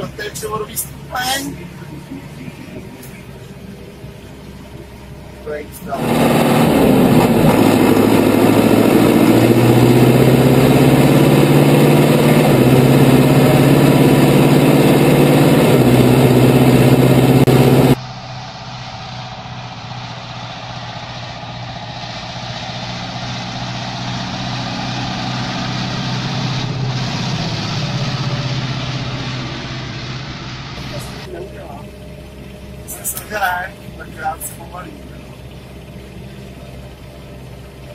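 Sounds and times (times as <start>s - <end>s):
tractor driving past: 0.0s - 37.9s
tractor engine from inside cab: 0.0s - 37.9s.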